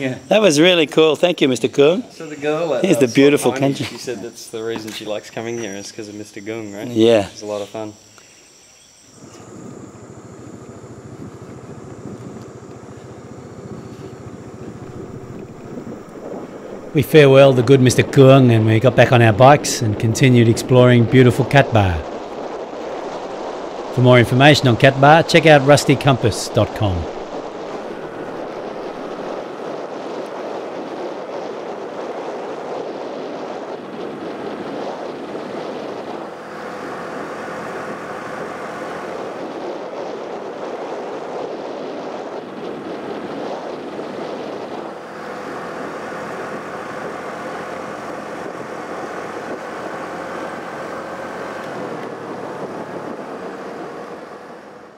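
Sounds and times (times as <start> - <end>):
motorbike engine cruising: 9.0 - 54.9.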